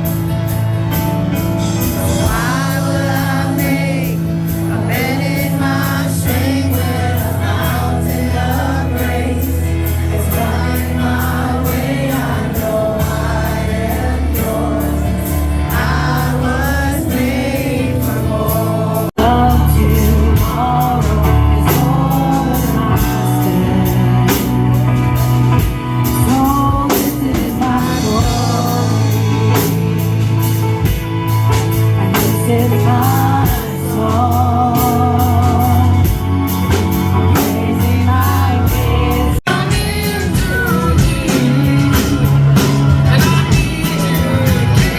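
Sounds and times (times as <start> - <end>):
band playing worship music: 0.0 - 44.9
people singing: 1.6 - 30.5, 32.0 - 44.9.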